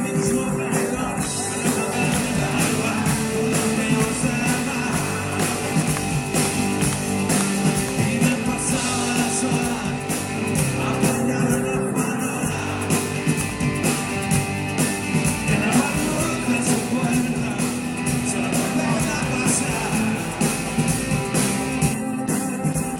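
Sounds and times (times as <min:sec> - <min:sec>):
person singing: 0:00.0 - 0:14.3, 0:15.3 - 0:22.9
drums: 0:00.0 - 0:22.9
electric guitar: 0:00.0 - 0:22.9.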